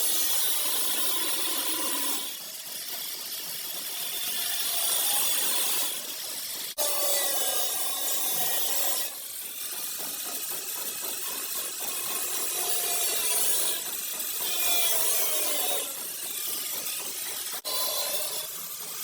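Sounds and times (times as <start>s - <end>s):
power grinder on sheet metal: 0.0s - 19.0s.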